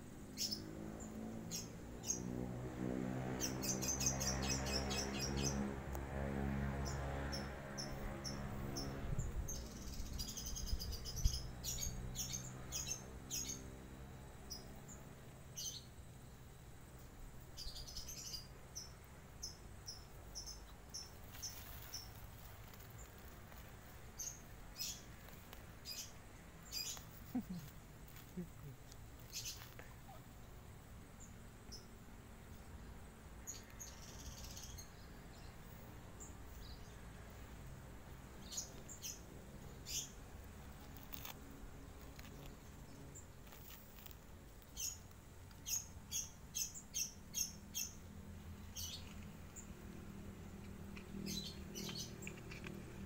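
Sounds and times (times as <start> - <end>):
small birds chirping: 0.1 - 2.4, 3.3 - 53.0.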